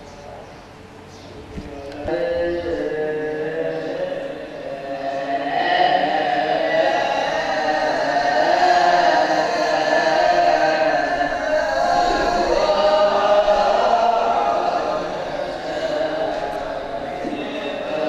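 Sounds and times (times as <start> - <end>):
group singing a chant: 1.6 - 18.0.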